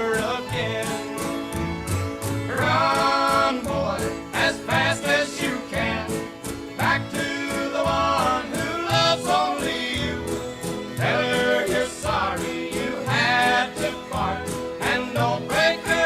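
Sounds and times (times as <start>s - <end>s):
country music with plucked strings: 0.0s - 16.0s.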